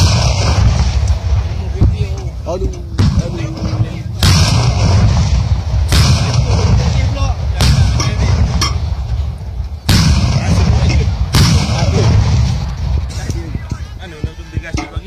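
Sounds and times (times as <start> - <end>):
sharp crack: 0.0 - 13.8
cannon booms with low rumble: 0.0 - 15.0.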